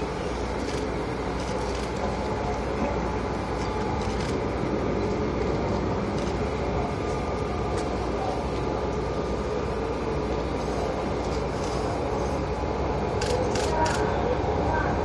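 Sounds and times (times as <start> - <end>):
distant jet engines rumbling: 0.0 - 15.0.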